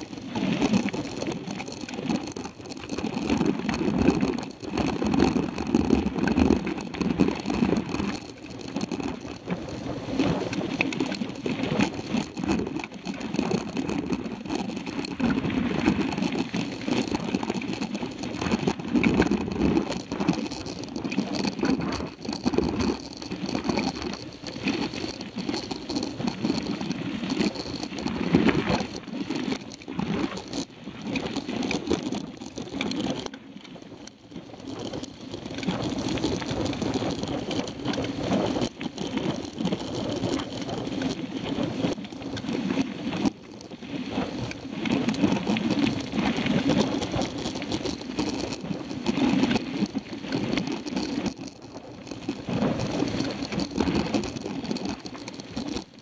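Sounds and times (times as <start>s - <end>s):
bike rattling: 0.0s - 56.0s
bike tyres rumbling on gravel: 0.0s - 56.0s.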